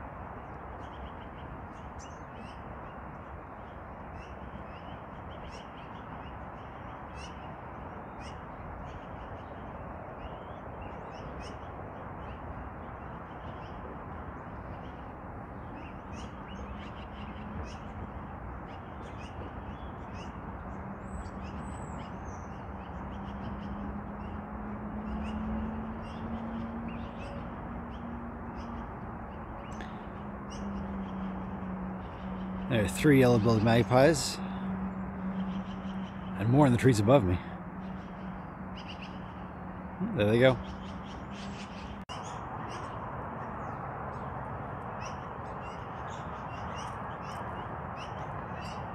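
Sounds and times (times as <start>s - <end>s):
magpies calling: 0.7s - 48.9s.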